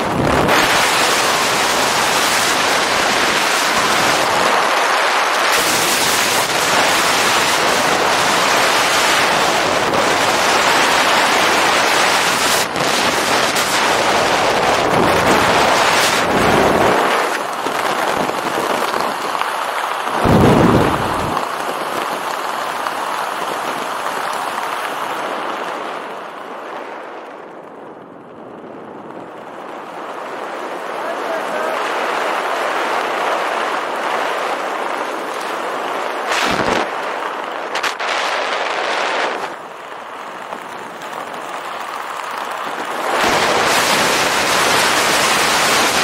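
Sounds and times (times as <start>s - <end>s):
wind rushing over camera: 0.0s - 46.0s.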